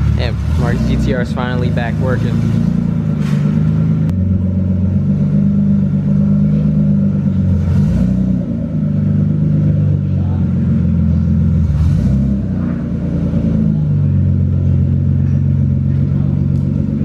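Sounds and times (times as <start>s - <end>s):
car engine running loud: 0.0s - 17.0s.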